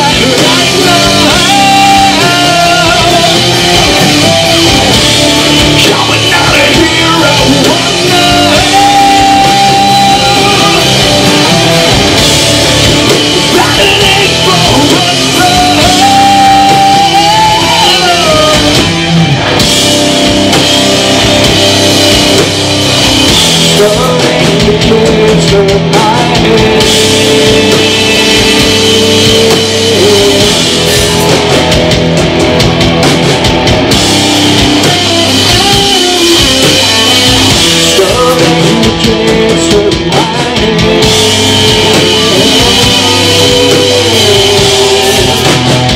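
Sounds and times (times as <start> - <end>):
singer's vocals: 0.0 - 19.0, 23.2 - 31.5, 34.5 - 45.9
live rock band playing: 0.0 - 45.9.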